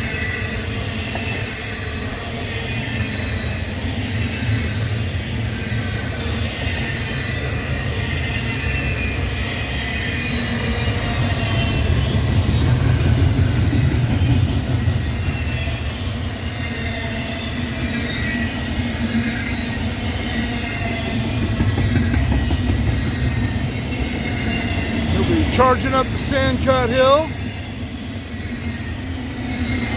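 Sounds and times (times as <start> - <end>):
faint wavering high squeals: 0.0 - 26.4, 27.0 - 29.9
freight train rumbling past: 0.0 - 29.9.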